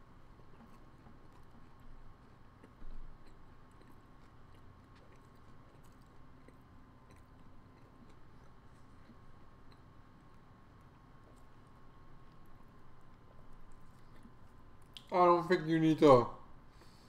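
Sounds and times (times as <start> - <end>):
faint chewing of a sandwich: 0.0 - 15.1, 16.6 - 17.0.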